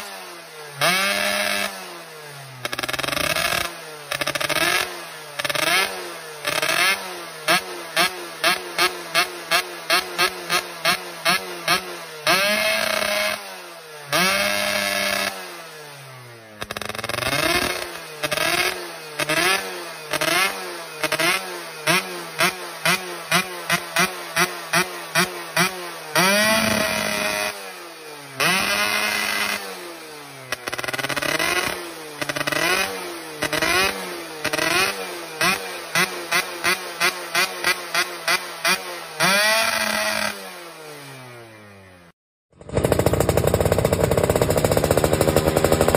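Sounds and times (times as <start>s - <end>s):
two-stroke motorcycle revving: 0.0s - 45.9s.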